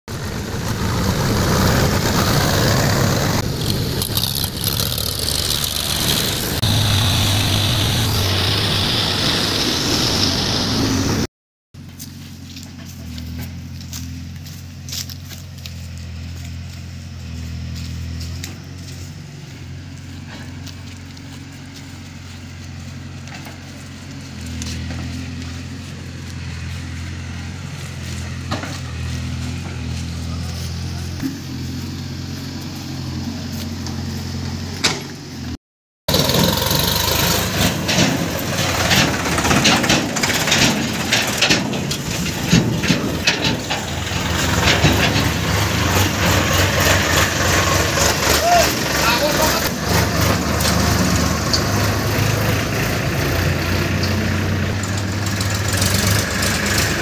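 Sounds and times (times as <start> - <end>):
diesel engines running: 0.1 - 57.0.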